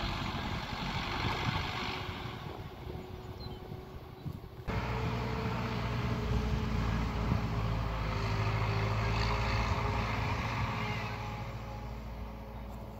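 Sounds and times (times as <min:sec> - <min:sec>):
tractor diesel engine driving past: 0:00.0 - 0:12.9.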